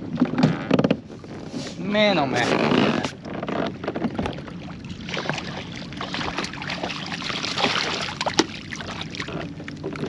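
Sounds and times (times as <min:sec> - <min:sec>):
water sloshing around a kayak: 0:00.0 - 0:10.0.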